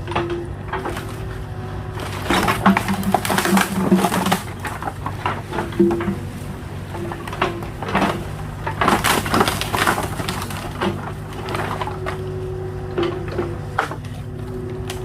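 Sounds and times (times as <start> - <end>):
excavator engine running: 0.0 - 15.0
wooden pallets cracking: 0.0 - 15.0.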